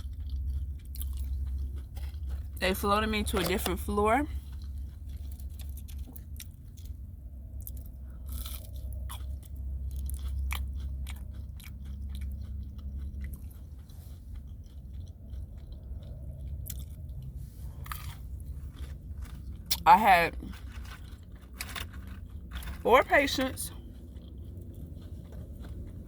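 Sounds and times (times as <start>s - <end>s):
person chewing crunchy food: 0.0s - 26.0s
steady low hum: 0.0s - 26.0s.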